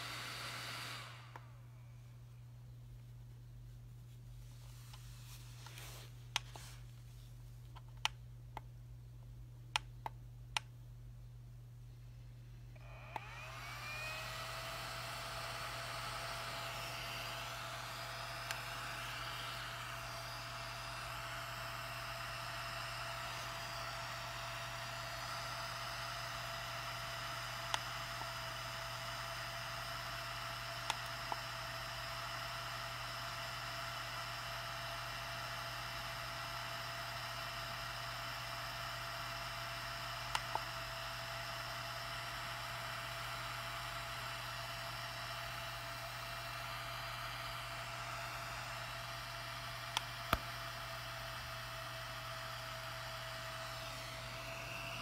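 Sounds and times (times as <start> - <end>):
cooling fan whirring: 0.0 - 55.0.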